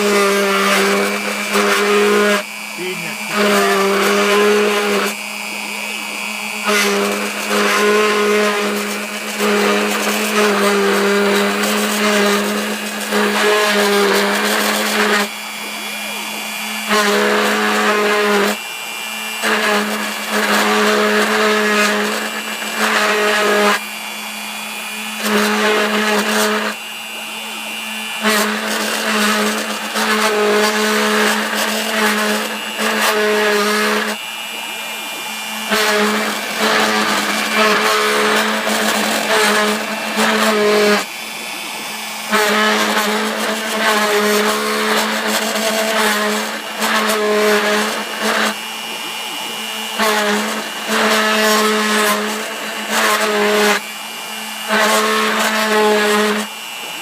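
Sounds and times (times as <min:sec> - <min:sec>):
cutter engraving metal whine: 0:00.0 - 0:57.0
machine spindle droning: 0:00.0 - 0:57.0.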